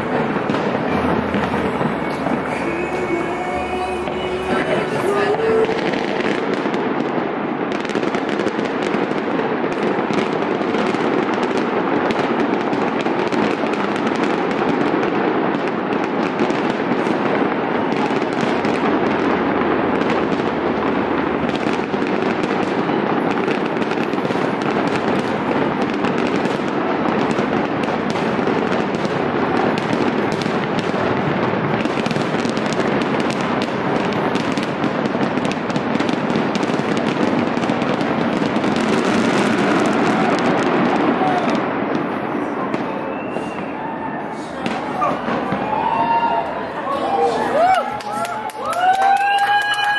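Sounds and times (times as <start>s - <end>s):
fireworks bangs and crackle: 0.0s - 49.9s.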